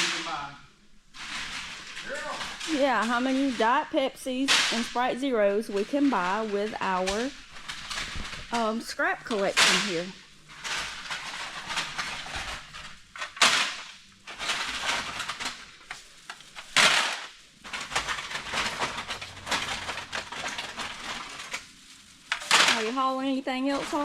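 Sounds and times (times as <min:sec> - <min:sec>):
crushed cans clattering in bags: 0:01.2 - 0:24.0.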